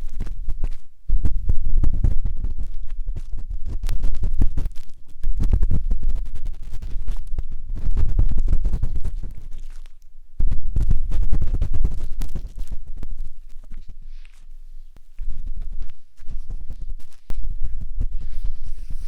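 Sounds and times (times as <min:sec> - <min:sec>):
matchstick scratching on microphone: 0:00.0 - 0:19.0.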